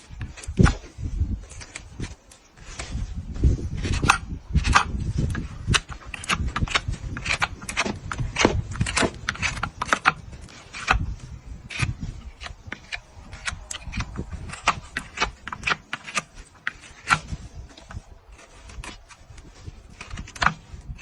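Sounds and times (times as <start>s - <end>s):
tools clicking and scraping hoof: 0.0s - 21.0s.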